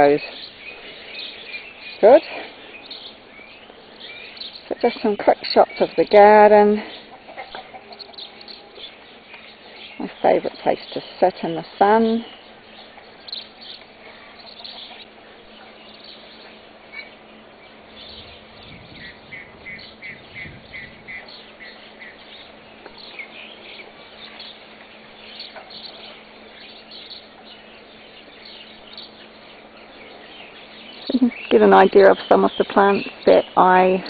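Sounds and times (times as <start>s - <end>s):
faint steady hum: 0.0s - 34.0s
small birds chirping: 0.0s - 34.0s.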